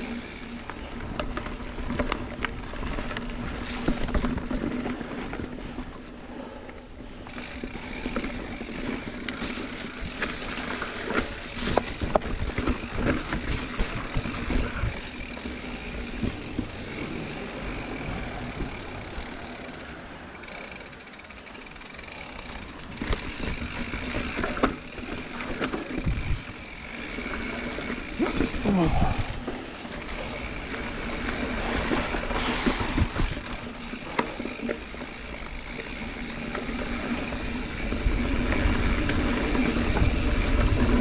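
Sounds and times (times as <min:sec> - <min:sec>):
bike rattling over bumps: 0:00.0 - 0:41.0
bike tyres on dirt trail: 0:00.0 - 0:41.0.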